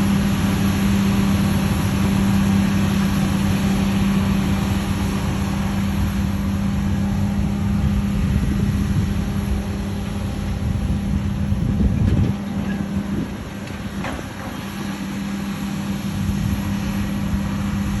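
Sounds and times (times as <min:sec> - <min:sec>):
combine harvester humming: 0:00.0 - 0:18.0.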